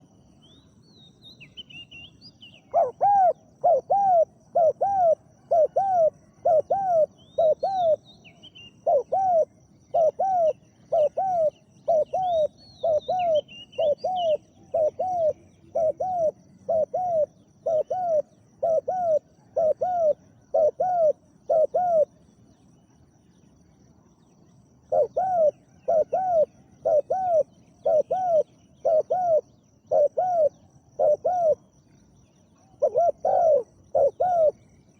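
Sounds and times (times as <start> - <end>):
small birds chirping: 0.0 - 34.9
dove cooing: 2.6 - 22.2, 24.8 - 31.7, 32.6 - 34.7.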